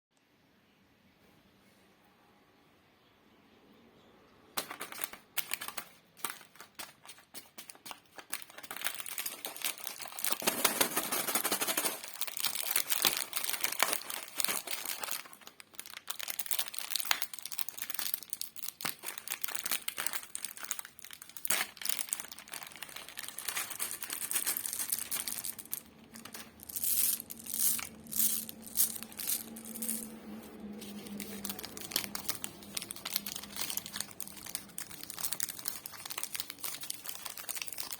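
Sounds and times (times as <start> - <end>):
plastic wrappers crinkling and tearing: 4.6 - 37.9.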